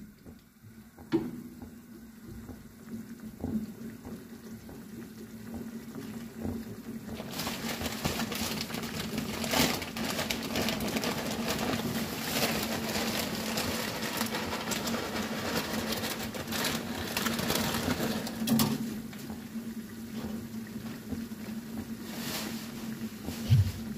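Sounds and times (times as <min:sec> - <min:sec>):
broth bubbling in a pan: 0:00.0 - 0:23.9.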